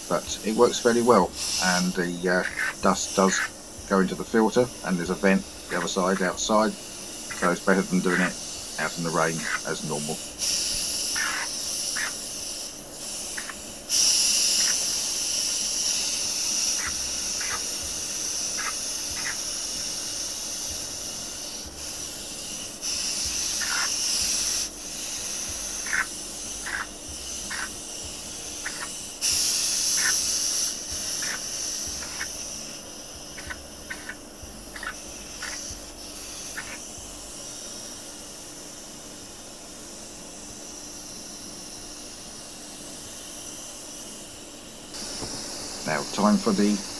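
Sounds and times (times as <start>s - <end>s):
compressed air hissing from spray gun: 0.0s - 46.9s
extractor fan humming: 0.0s - 46.9s.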